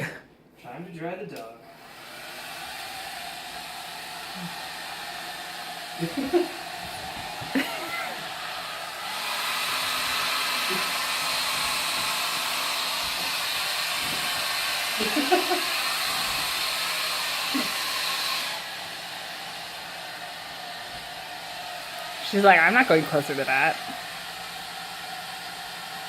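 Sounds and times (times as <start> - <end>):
hair dryer blowing: 1.6 - 26.0.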